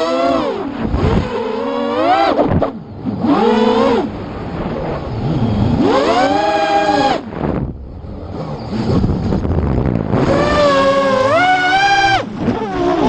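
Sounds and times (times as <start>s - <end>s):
motor revving: 0.0s - 13.0s.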